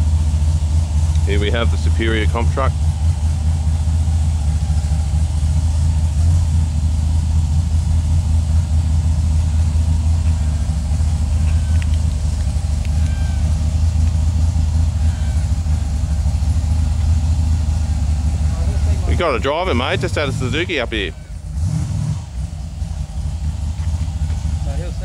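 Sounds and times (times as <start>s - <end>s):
engine running at low revs: 0.0s - 25.0s.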